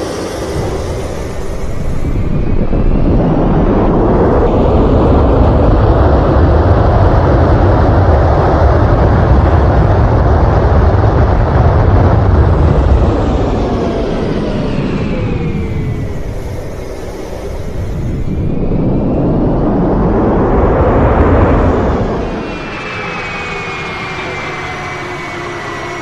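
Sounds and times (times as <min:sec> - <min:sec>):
aircraft landing roar: 0:00.0 - 0:26.0.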